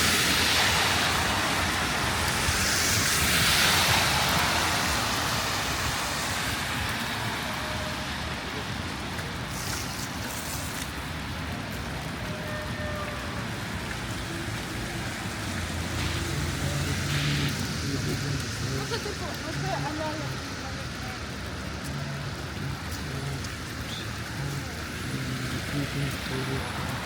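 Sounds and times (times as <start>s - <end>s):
low rumble of traffic: 0.0s - 27.0s
tyres hissing on wet road: 0.0s - 27.0s.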